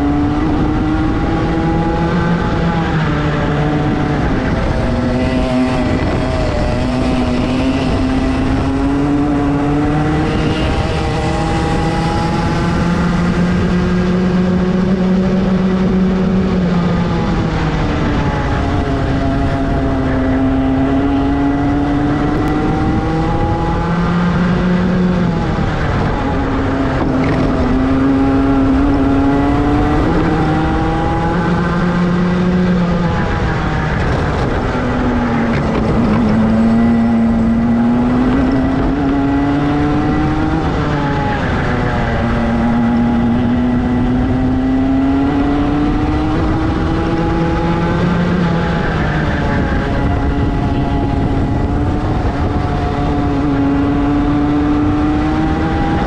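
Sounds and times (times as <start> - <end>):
kart engine racing: 0.0 - 56.0
second kart engine: 0.0 - 56.0.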